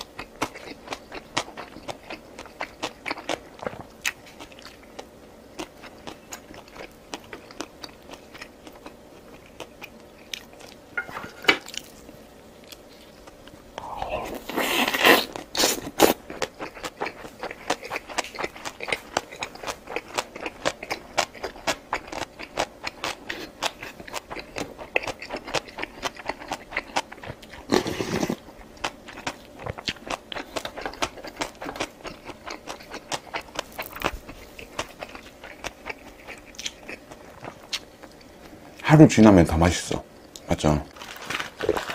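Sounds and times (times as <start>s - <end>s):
person chewing crunchy food: 0.0s - 10.9s, 11.6s - 38.8s, 40.2s - 41.9s.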